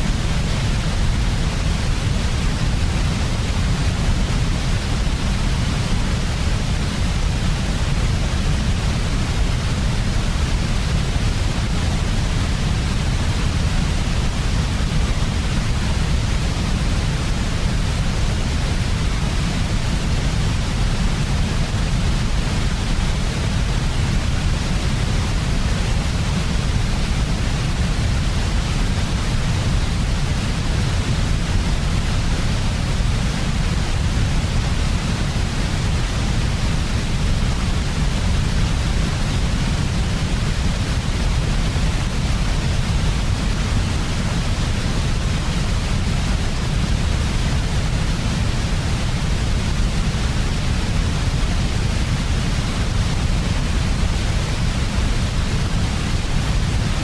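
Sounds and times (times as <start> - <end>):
bass-heavy white noise: 0.0 - 57.0.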